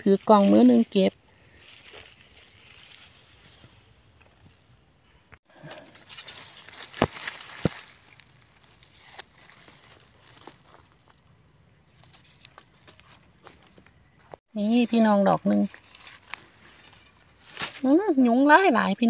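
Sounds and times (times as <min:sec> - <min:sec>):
dry leaves and grass rustling: 0:00.0 - 0:04.5, 0:05.8 - 0:19.0
insect buzzing: 0:00.0 - 0:18.9.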